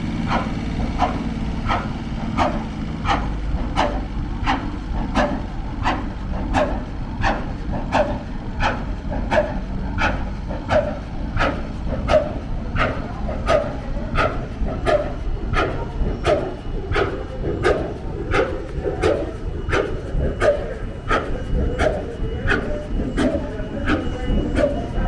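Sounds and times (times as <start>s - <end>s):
low rumble: 0.0s - 25.0s
stationary gas engine beating: 0.0s - 25.0s.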